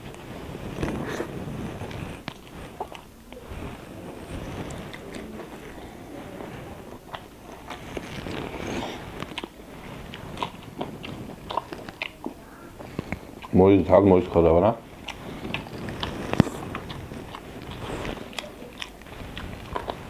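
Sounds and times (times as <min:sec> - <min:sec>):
person chewing eggs: 0:00.7 - 0:20.0.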